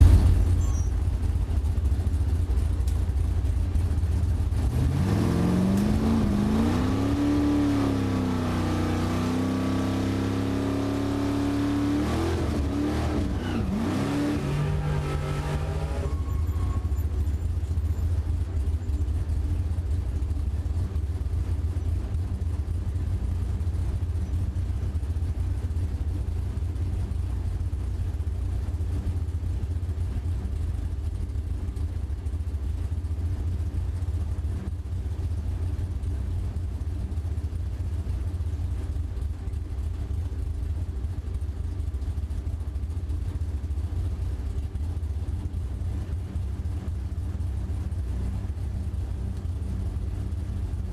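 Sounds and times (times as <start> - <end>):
low engine rumble: 0.0 - 50.9.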